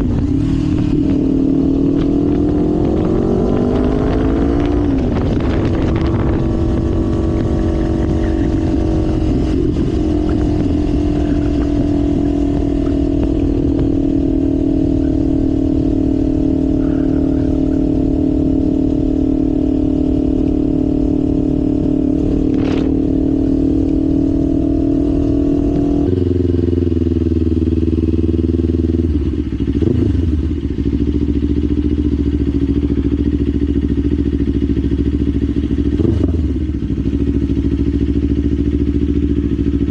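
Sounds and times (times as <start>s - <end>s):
deeper drone: 0.0s - 34.6s
motorcycle engine accelerating: 0.0s - 39.9s.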